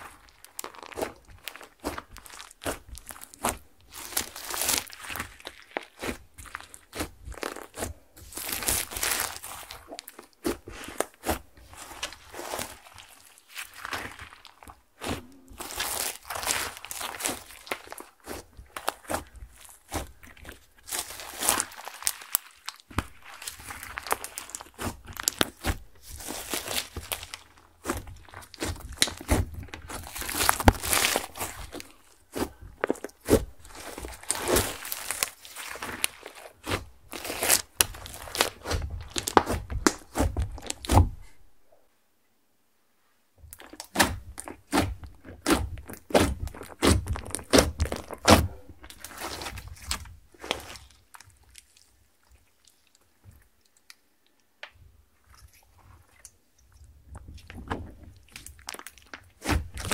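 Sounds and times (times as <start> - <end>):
fingertips poking stiff slime: 0.0 - 22.1, 22.9 - 41.4, 43.5 - 51.0, 59.3 - 59.9.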